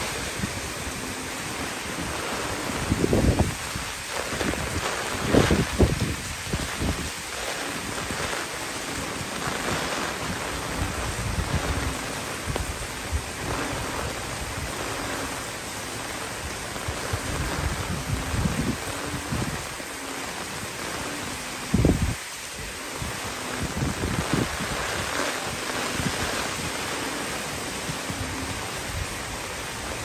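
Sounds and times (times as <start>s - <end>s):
gusting wind: 0.0s - 30.0s
heavy rain: 0.0s - 30.0s
leaves thrashing: 0.0s - 30.0s
wind buffeting the microphone: 0.0s - 30.0s.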